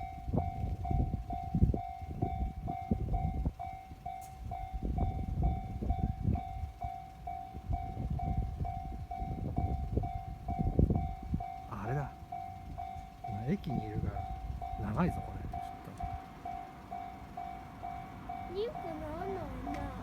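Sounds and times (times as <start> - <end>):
gusty low rumble: 0.0 - 6.9, 7.5 - 20.0
level-crossing warning bell: 0.0 - 20.0.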